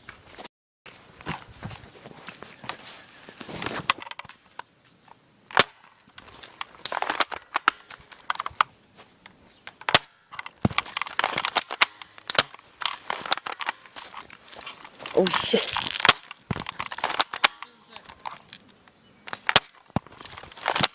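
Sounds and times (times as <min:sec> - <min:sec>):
rustling of movement: 0:00.0 - 0:20.9.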